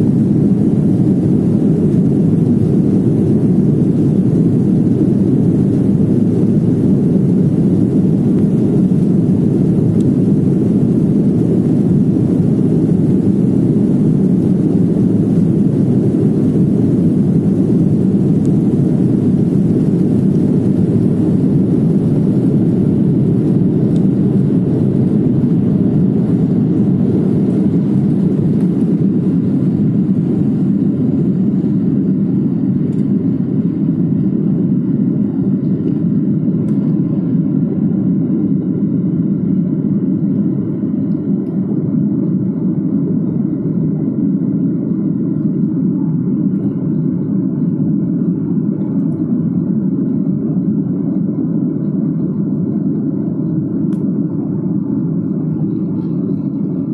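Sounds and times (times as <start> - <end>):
jet engines rumbling in cabin: 0.0 - 56.9.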